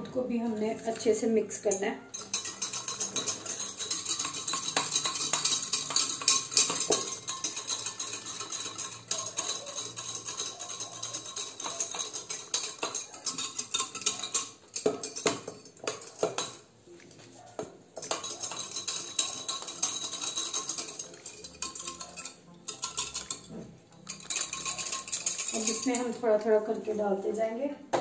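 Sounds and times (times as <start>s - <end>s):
whisk clicking against glass: 2.1s - 16.6s, 18.0s - 26.2s.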